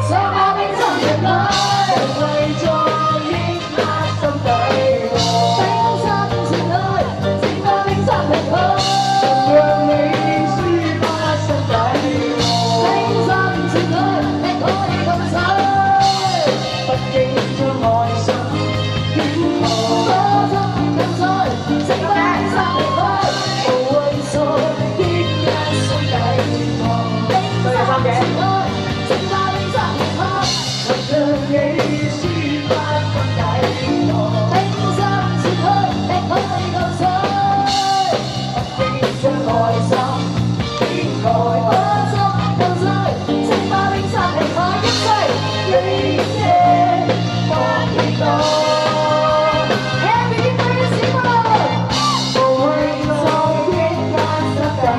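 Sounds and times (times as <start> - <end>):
person singing into a microphone: 0.0 - 54.9
rock and roll band accompaniment: 0.0 - 54.9.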